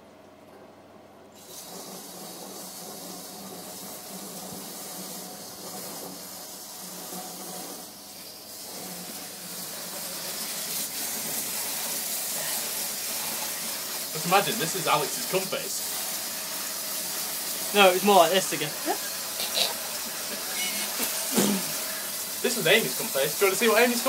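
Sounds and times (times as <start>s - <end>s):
water hissing from hose nozzle: 1.4s - 24.0s.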